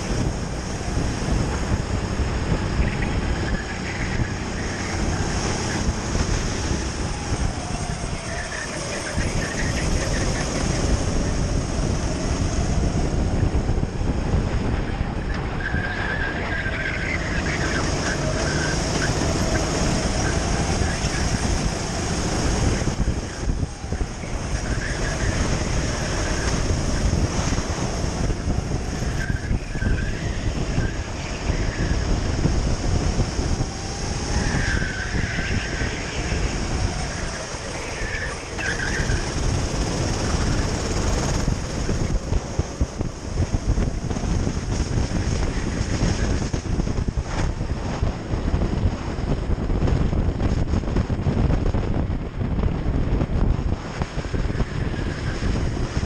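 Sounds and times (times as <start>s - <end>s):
racing kart engine: 0.0s - 56.0s
wind buffeting microphone: 0.0s - 56.0s.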